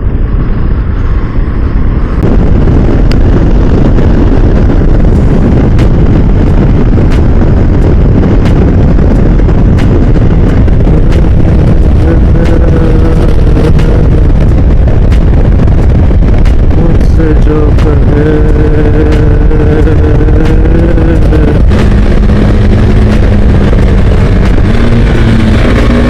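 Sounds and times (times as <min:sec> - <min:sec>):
motorcycle riding: 0:00.0 - 0:26.0
wind rush on microphone: 0:00.0 - 0:26.0.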